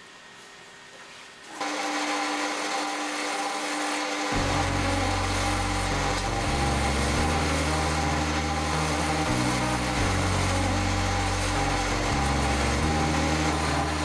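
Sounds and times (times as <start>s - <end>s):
wood lathe cutting: 1.6s - 14.0s.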